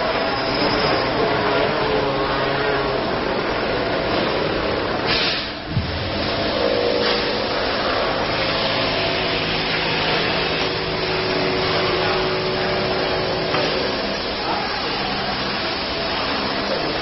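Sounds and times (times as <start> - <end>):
machine whirring hiss: 0.0 - 17.0.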